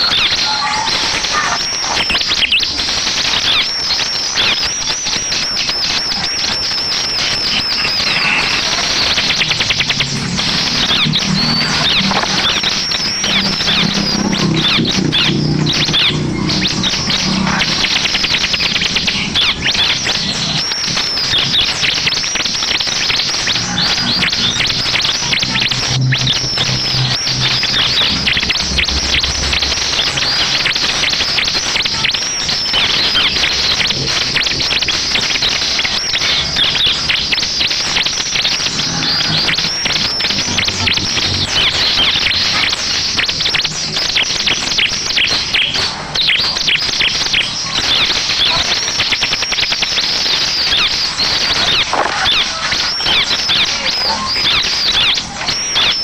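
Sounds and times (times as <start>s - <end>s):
bird rapid high chirps and trills: 0.0s - 56.0s.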